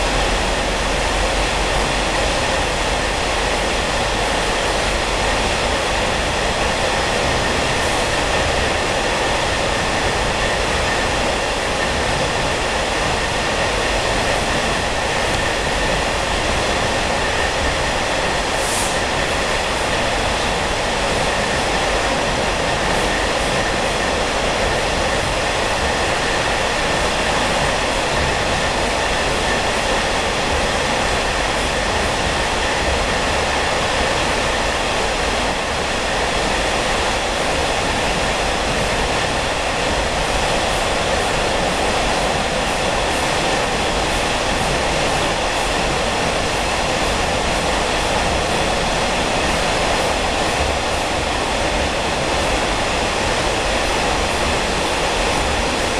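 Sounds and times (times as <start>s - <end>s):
train wheels on rails roaring: 0.0s - 55.9s.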